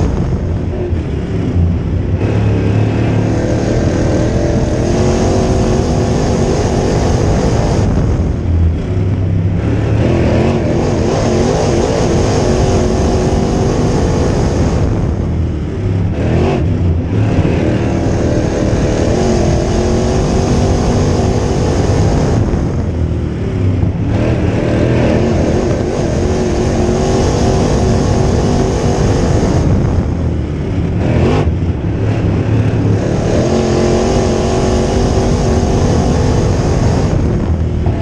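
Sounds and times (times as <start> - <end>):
race car engine at high revs: 0.0 - 38.0.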